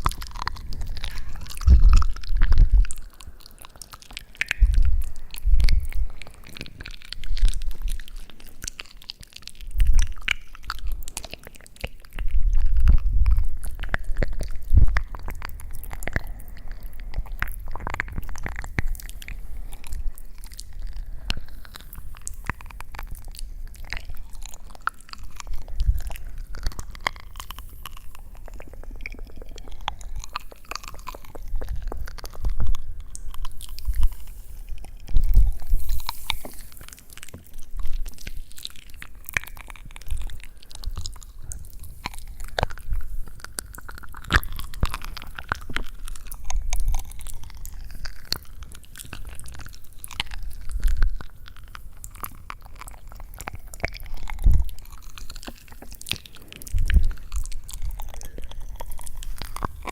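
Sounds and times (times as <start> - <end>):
crunching and crackling clicks: 0.0 - 59.9.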